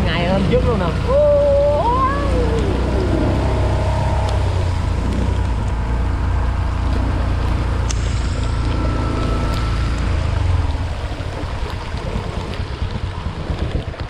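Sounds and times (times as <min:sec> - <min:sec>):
vehicle driving low rumble: 0:00.0 - 0:14.0
rain hissing: 0:00.4 - 0:13.2.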